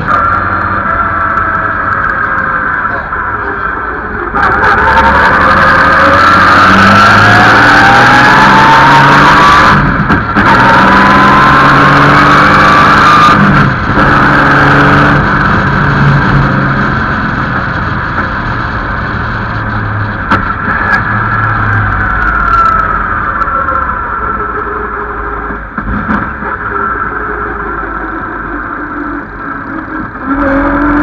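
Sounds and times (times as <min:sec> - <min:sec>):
racing car engine accelerating: 0:00.0 - 0:31.0.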